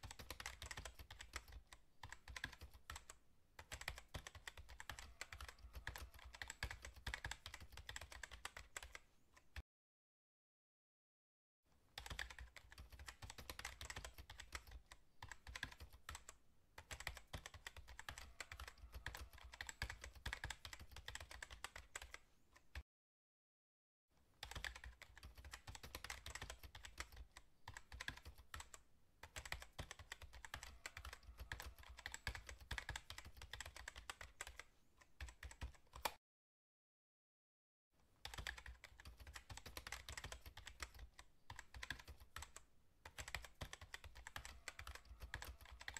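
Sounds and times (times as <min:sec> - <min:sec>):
keyboard typing clicks: 0:00.0 - 0:09.6, 0:12.0 - 0:22.8, 0:24.4 - 0:36.2, 0:38.2 - 0:45.9.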